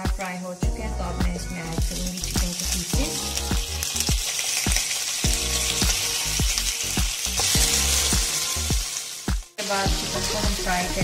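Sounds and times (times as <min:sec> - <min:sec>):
background music with low beat: 0:00.0 - 0:11.0
chicken sizzling in hot oil: 0:00.0 - 0:11.0.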